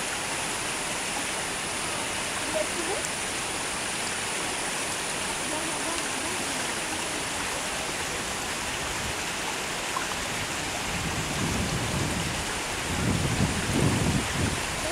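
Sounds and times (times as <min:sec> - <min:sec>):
water rushing: 0:00.0 - 0:14.9.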